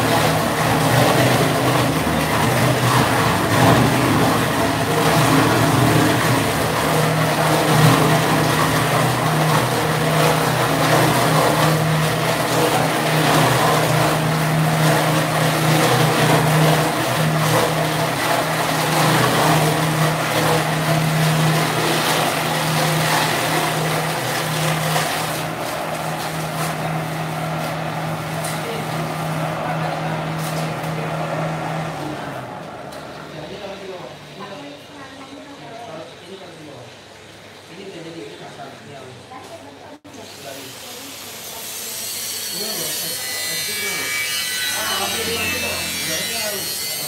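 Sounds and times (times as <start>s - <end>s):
bowl cutter machine droning: 0.0s - 38.8s, 40.0s - 47.0s.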